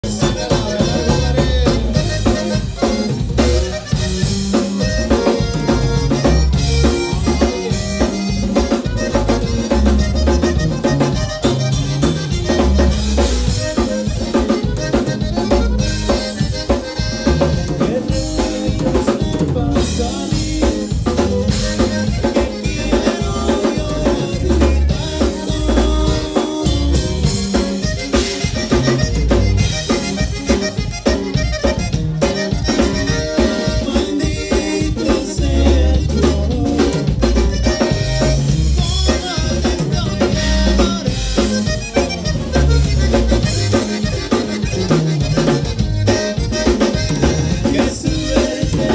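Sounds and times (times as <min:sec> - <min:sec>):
accordion: 0:00.0 - 0:48.9
drum kit beat: 0:00.0 - 0:48.9
electric bass: 0:00.0 - 0:48.9
guitar: 0:00.0 - 0:48.9.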